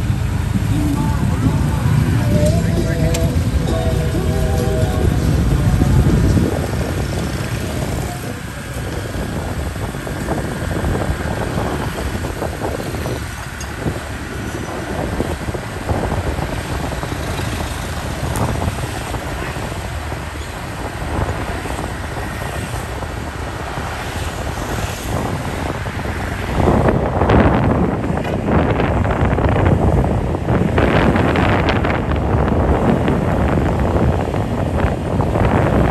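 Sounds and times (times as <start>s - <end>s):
passing traffic: 0.0s - 35.9s
vehicle engine and road noise: 0.0s - 35.9s.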